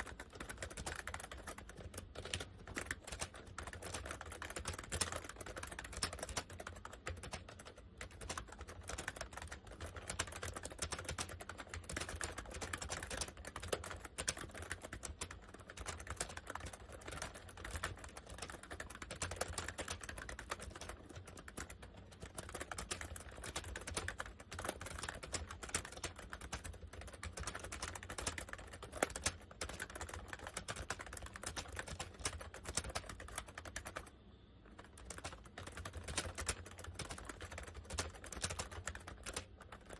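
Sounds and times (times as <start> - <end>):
fast keyboard typing: 0.0 - 34.1, 34.7 - 39.9.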